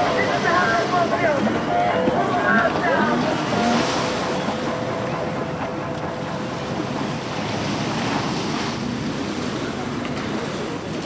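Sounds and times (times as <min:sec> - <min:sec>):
water noise: 0:00.0 - 0:11.0
watercraft engine whine: 0:00.0 - 0:11.0.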